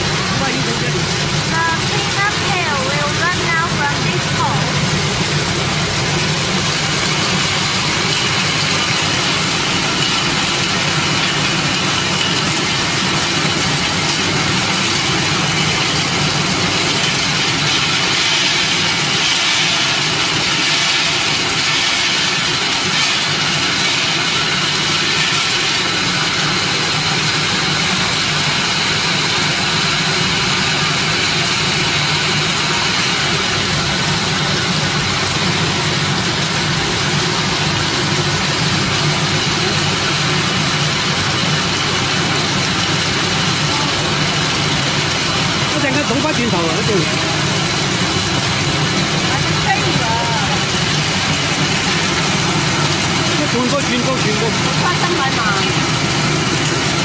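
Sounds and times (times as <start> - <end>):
peeling machine motor hum: 0.0 - 57.0.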